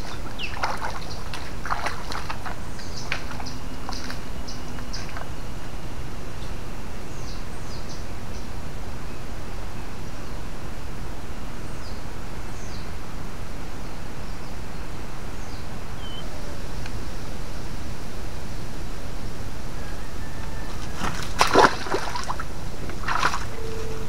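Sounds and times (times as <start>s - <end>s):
birds chirping: 0.0s - 10.5s, 11.3s - 24.0s
steady rushing noise: 0.0s - 24.0s.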